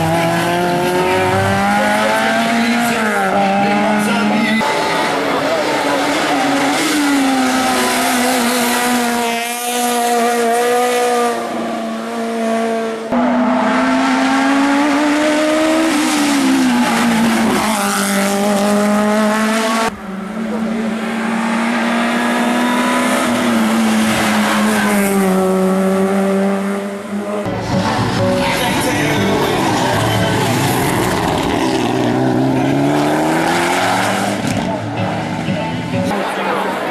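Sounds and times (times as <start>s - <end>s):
race car engines at high revs: 0.0s - 28.2s, 28.8s - 36.9s.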